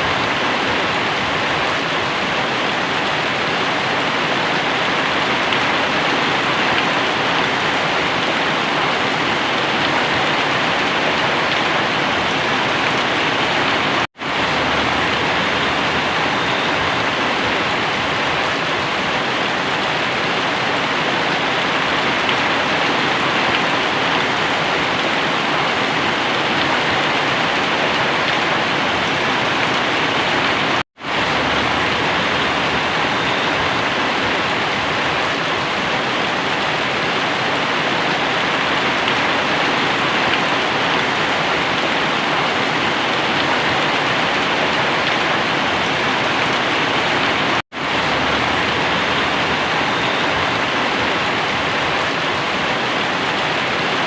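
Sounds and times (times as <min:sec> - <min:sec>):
very heavy rain pouring: 0:00.0 - 0:54.0.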